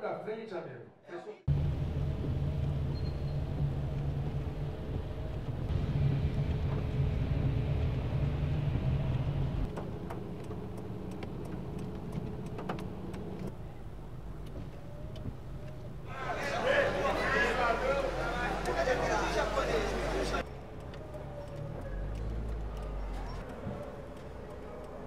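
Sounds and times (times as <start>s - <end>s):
car engine and road noise: 1.5s - 25.0s.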